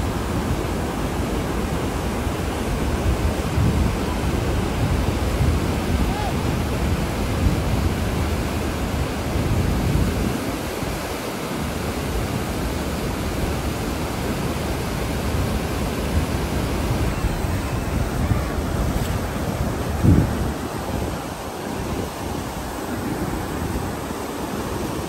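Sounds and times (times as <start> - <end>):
turbulent water rushing: 0.0 - 25.0.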